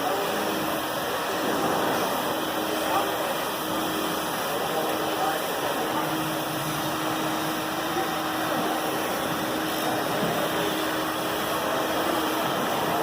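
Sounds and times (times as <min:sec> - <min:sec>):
industrial vacuum running: 0:00.0 - 0:13.0.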